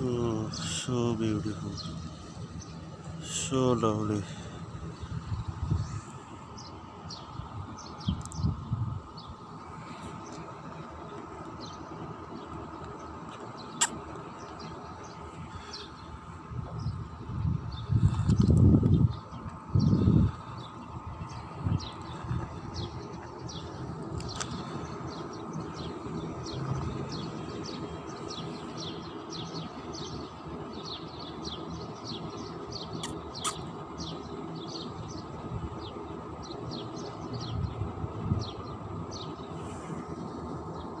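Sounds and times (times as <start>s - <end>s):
low outdoor rumble: 0.0s - 41.0s
small birds chirping: 0.0s - 41.0s.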